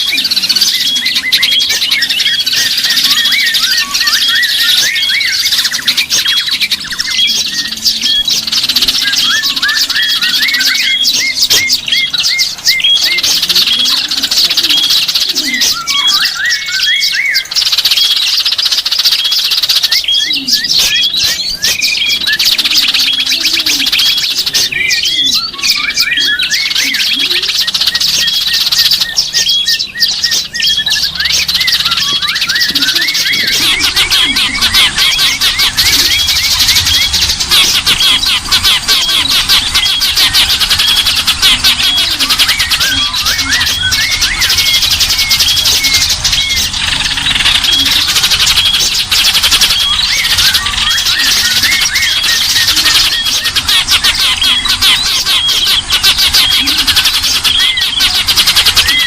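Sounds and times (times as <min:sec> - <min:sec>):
lower bird calls: 0:00.0 - 0:59.0
songbirds chirping and trilling: 0:00.0 - 0:59.0.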